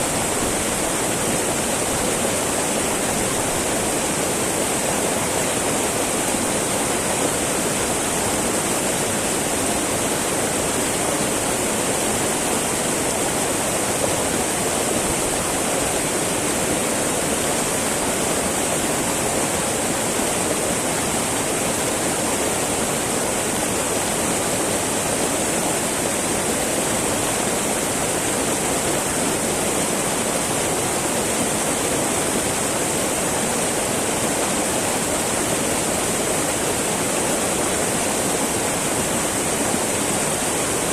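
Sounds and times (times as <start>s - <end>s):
river babbling over rocks: 0.0s - 40.9s.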